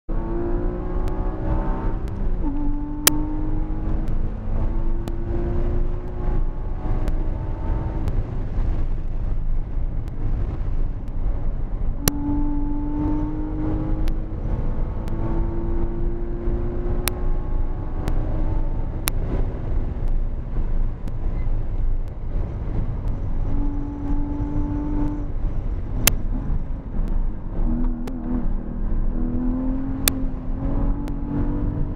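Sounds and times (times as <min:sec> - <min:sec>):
road and wind noise: 0:00.1 - 0:31.9
sports car engine at speed: 0:00.1 - 0:31.9.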